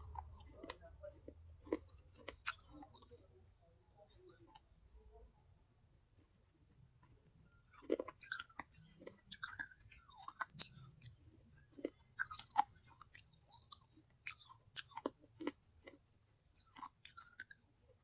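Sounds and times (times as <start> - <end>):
chewing and crunching clay: 0.0 - 3.5, 7.0 - 18.0.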